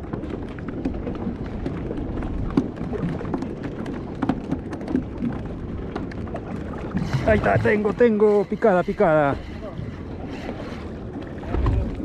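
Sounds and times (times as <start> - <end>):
small clicks and splashes: 0.0 - 12.0
water lapping around boat: 0.0 - 12.0
wind rumble on microphone: 0.0 - 12.0.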